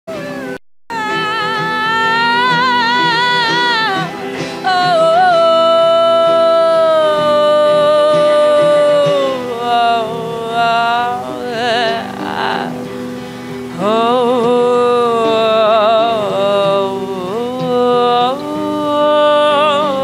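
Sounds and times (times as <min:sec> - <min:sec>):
electric guitar chords: 0:00.1 - 0:20.0
high voice singing: 0:00.1 - 0:20.0.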